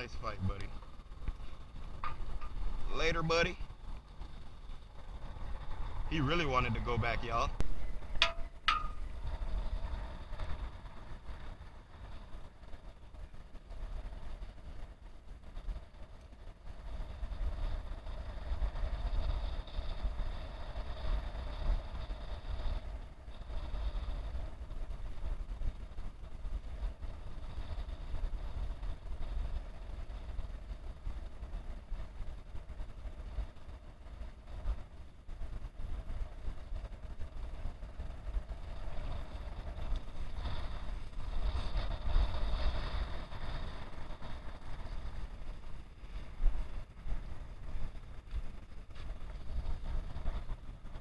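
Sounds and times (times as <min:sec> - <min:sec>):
distant mechanical drone: 0:00.0 - 0:51.0
wind rumbling on microphone: 0:00.0 - 0:51.0.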